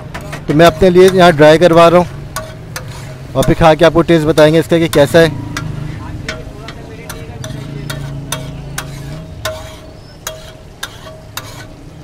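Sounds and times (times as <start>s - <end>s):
metal spatula clanging on pan: 0.0s - 11.9s
frying sizzle: 0.0s - 12.0s.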